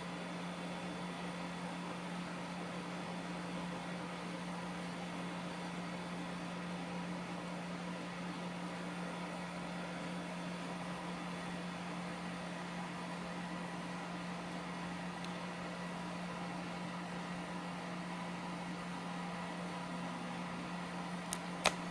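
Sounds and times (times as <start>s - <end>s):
three-d printer fans whirring: 0.0s - 21.9s.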